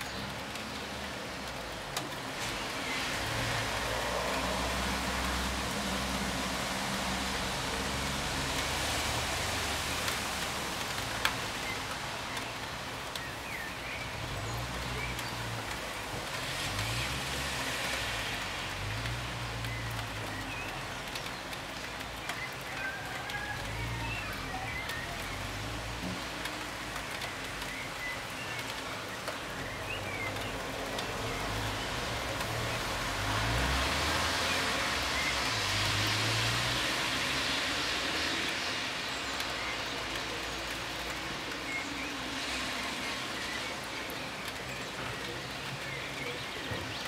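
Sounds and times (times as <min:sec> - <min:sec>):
outdoor hiss: 0:00.0 - 0:22.4, 0:23.6 - 0:47.0.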